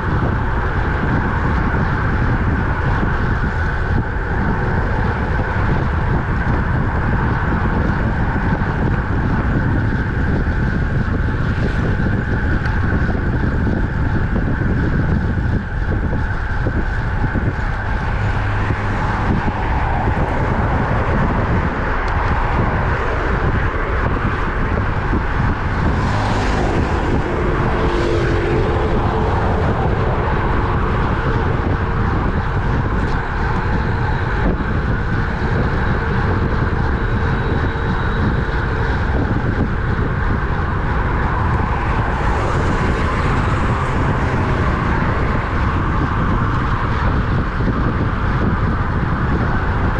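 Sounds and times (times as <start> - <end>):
tyre and road noise: 0.0 - 49.9
wind rushing over microphone: 0.0 - 49.9.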